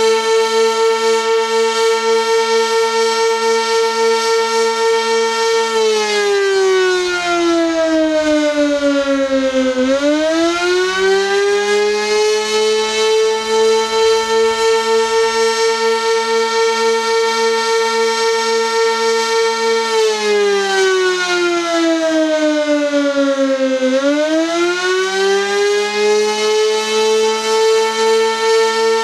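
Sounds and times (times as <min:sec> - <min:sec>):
outdoor warning siren: 0:00.0 - 0:29.0.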